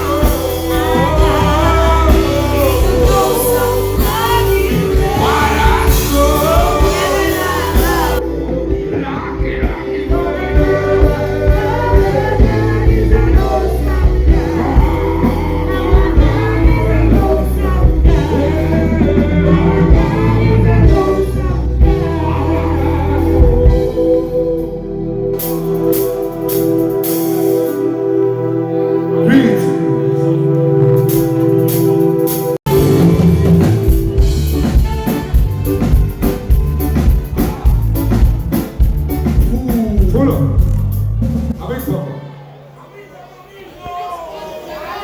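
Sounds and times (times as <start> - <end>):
person singing: 0.0 - 41.0
live band with heavy bass: 0.0 - 42.8.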